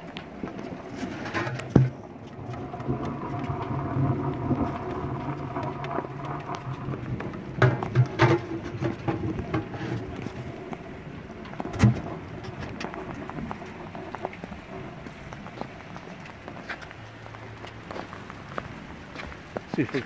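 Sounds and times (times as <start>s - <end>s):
light rain: 0.0s - 20.0s.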